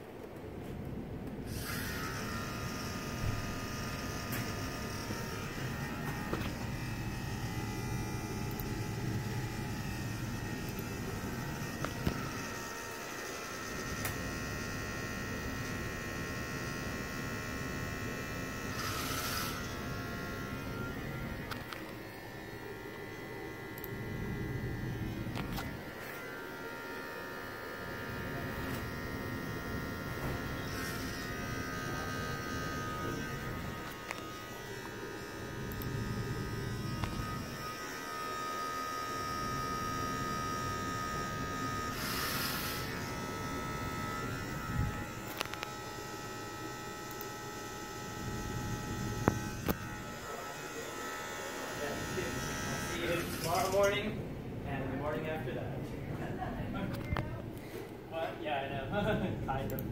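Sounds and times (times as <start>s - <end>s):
electric motor propeller whine: 1.5s - 54.2s.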